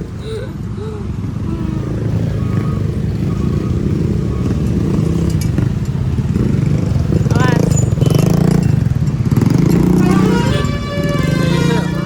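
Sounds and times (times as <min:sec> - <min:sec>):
vehicle engine running: 0:01.7 - 0:12.0.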